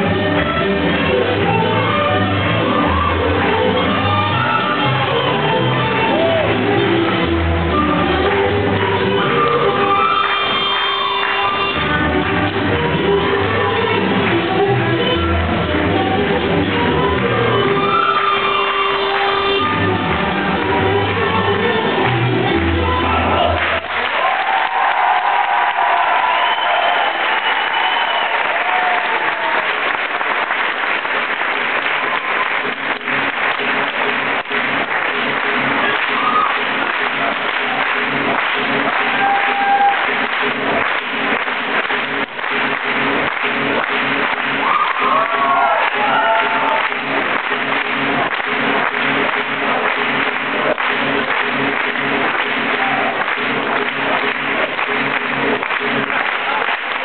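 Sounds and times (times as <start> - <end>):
folk dance music: 0.0 - 57.0
audience applauding: 2.4 - 15.5, 16.7 - 57.0.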